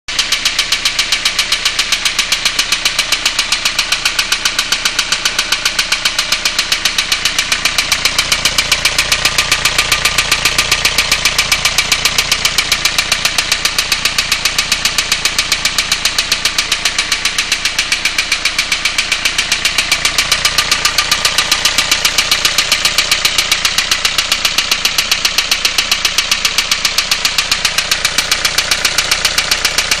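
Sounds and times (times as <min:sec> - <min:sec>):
diesel engine idling with knock: 0:00.1 - 0:30.0.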